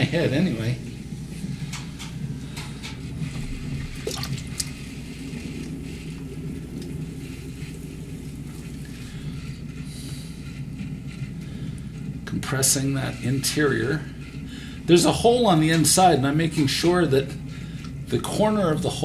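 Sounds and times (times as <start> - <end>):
potter's wheel humming: 0.0 - 19.0.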